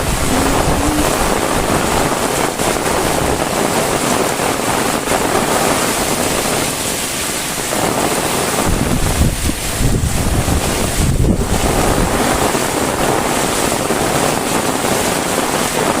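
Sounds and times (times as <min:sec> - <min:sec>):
heavy rain hissing: 0:00.0 - 0:16.0
wind buffeting microphone: 0:00.0 - 0:16.0.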